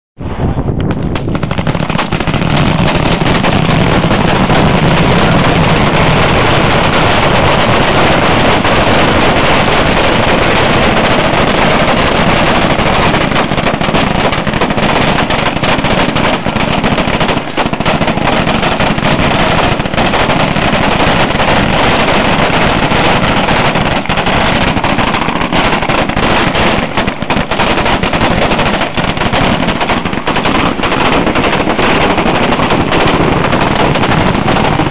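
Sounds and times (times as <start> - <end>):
rapid gunfire: 0.9 - 34.9.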